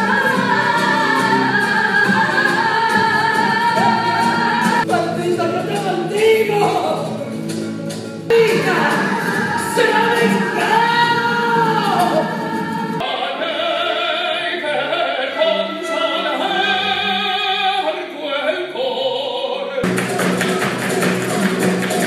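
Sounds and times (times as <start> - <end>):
operatic singing with vibrato: 0.0 - 7.2, 8.3 - 22.0
musical accompaniment: 0.0 - 18.8, 19.8 - 22.0.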